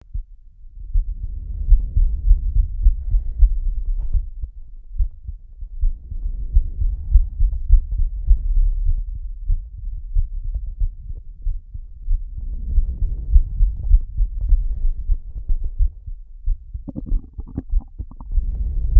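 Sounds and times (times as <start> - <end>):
heartbeat thumps: 0.9 - 18.5.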